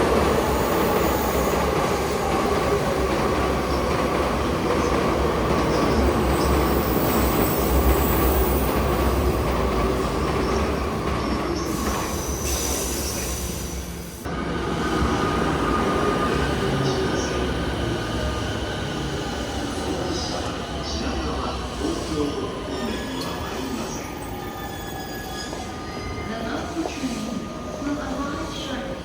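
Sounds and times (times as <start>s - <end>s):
train wheels rumbling on rails: 0.0s - 24.3s.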